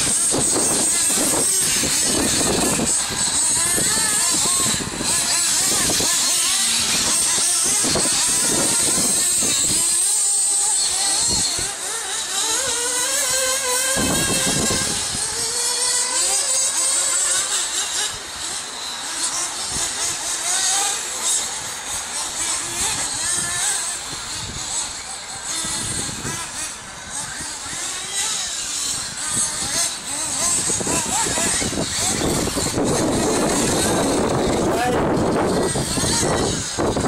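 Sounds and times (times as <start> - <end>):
toy buggy motor whining: 0.0 - 37.0.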